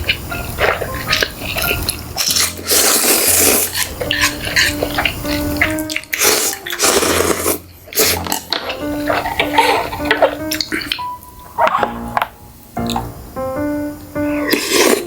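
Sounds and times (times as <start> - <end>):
crunching and chewing: 0.0 - 13.0
soft background melody: 0.0 - 15.0.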